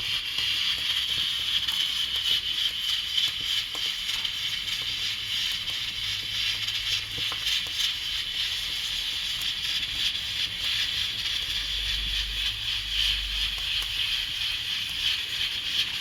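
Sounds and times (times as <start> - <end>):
pressure cooker hissing: 0.0 - 16.0.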